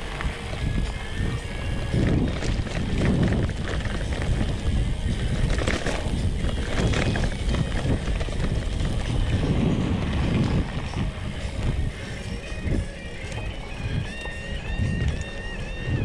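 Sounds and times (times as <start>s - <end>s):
bike rumbling and rattling on dirt: 0.0s - 16.0s
wind buffeting microphone: 0.0s - 16.0s.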